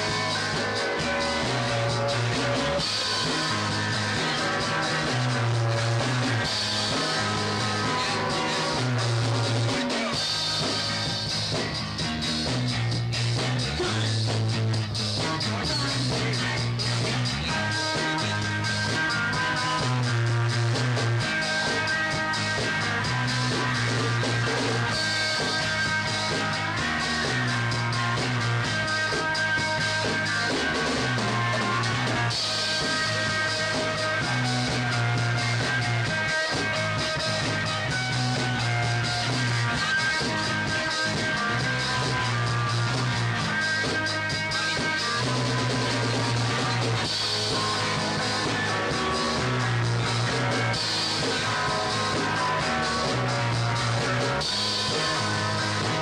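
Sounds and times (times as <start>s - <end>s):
bass guitar repeating notes: 0.0s - 56.0s
drums and cymbals: 0.0s - 56.0s
electric guitar: 0.0s - 56.0s.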